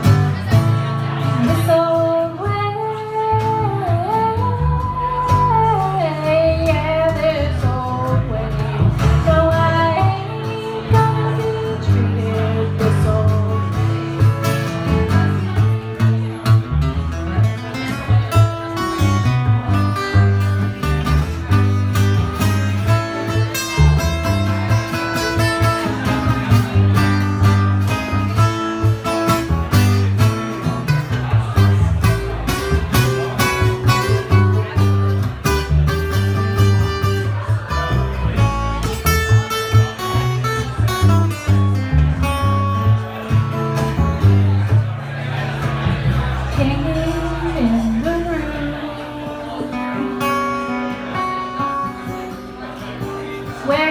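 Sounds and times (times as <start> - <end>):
plucked upright bass: 0.0 - 53.9
strummed acoustic guitar: 0.0 - 53.9.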